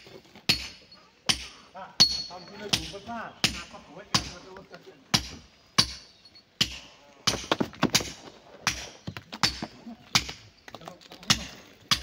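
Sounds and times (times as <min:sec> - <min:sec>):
hammer striking stone: 0:00.5 - 0:04.5, 0:05.1 - 0:10.4, 0:11.2 - 0:12.0.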